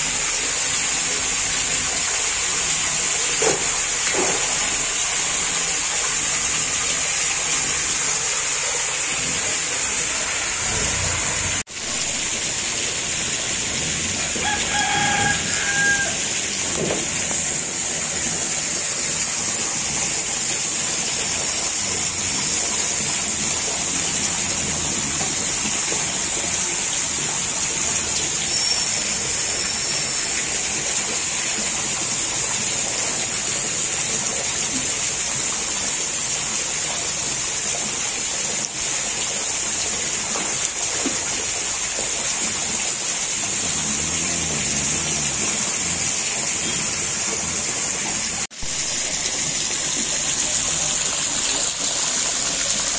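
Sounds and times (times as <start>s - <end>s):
water rushing and splashing: 0.0s - 52.9s.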